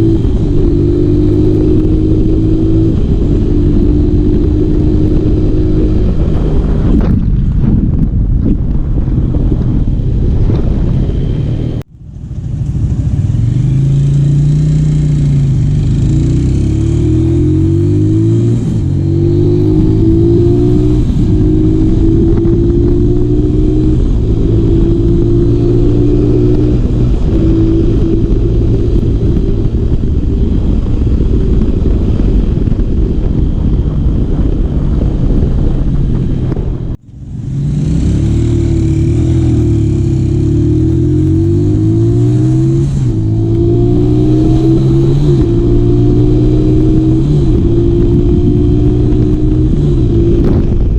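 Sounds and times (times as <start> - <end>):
motorcycle engine pulling hard: 0.0 - 50.9
wind rush over microphone: 0.0 - 50.9.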